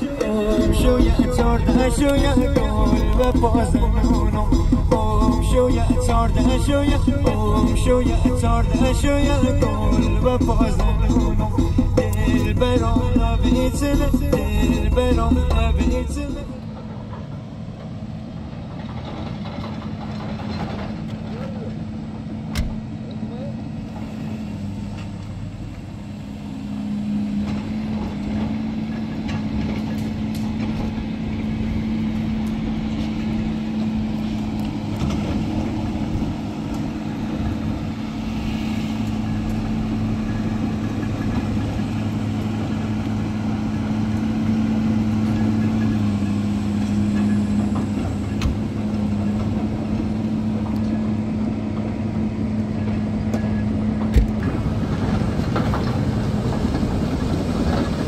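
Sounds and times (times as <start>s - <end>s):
road noise: 0.0s - 58.0s
vehicle engine drone: 0.0s - 58.0s.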